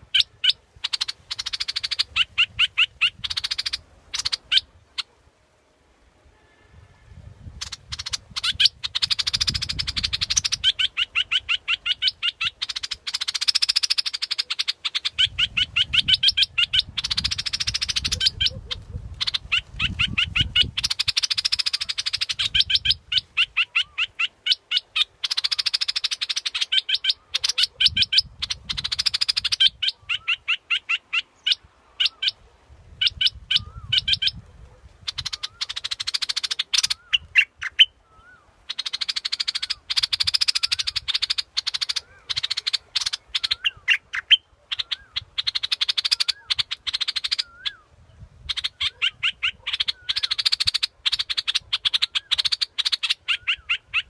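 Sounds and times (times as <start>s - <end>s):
bird chirping rapidly: 0.0s - 5.2s, 7.5s - 34.4s, 35.0s - 54.0s.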